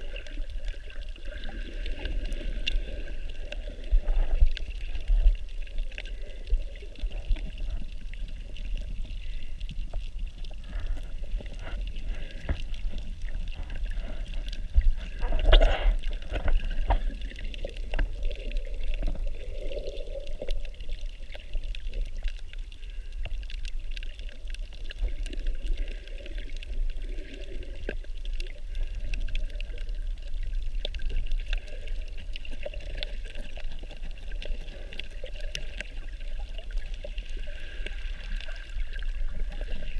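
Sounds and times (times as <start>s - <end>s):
water sloshing and trickling: 0.0s - 39.9s.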